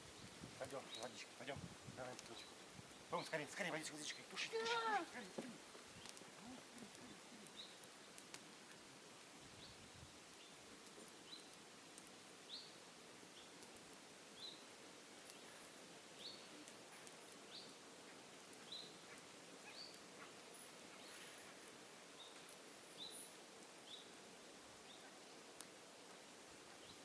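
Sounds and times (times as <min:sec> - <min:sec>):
outdoor background hiss: 0:00.0 - 0:27.0.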